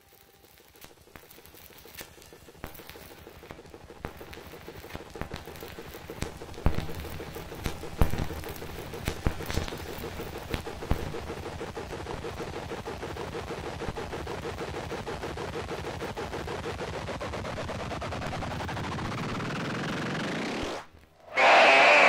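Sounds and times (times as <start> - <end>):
rapid rattle of clicks: 0.3 - 19.3.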